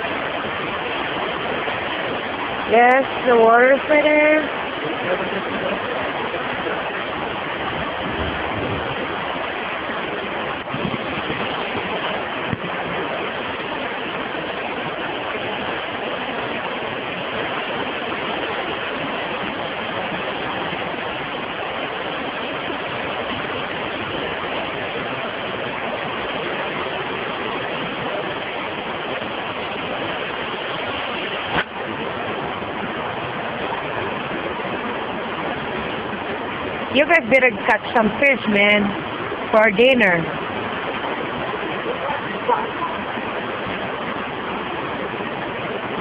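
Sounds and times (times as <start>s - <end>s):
river rushing: 0.0s - 46.0s.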